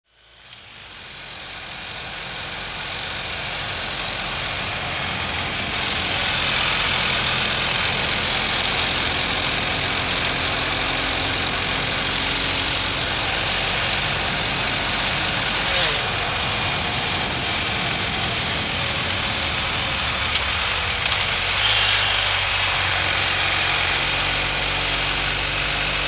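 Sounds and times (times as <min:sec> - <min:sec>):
road noise: 0:00.1 - 0:26.0
motorcycle engine cruising: 0:00.3 - 0:26.0
wind noise: 0:03.0 - 0:24.9.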